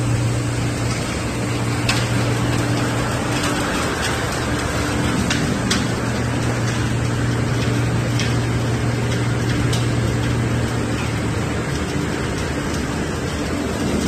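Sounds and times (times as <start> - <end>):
machinery motor hum: 0.0 - 14.0.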